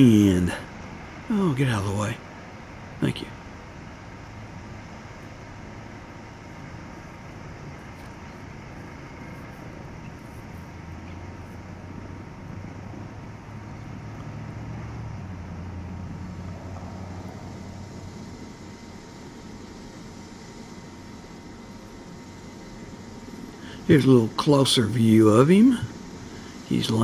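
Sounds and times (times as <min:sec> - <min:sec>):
faint high whine: 0:00.0 - 0:27.0
helicopter rotor drone: 0:00.0 - 0:27.0.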